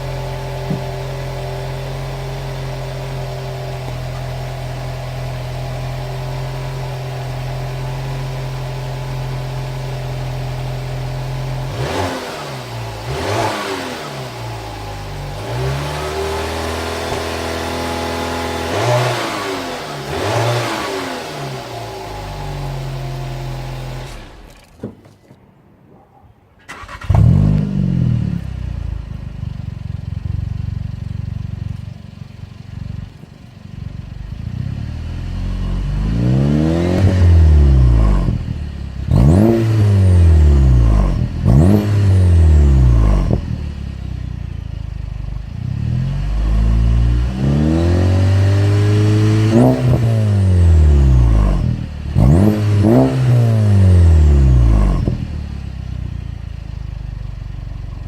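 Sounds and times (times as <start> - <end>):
car engine starting and revving: 0.0 - 24.7, 26.6 - 31.8, 33.9 - 58.0.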